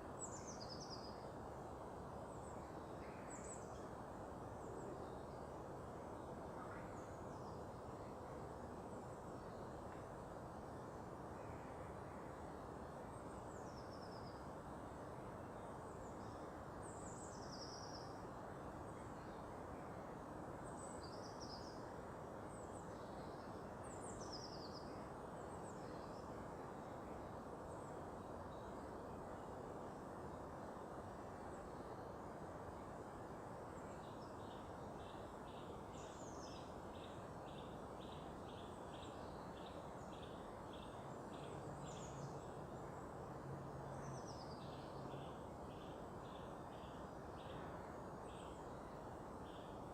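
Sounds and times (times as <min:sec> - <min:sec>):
low rushing background noise: 0:00.0 - 0:49.9.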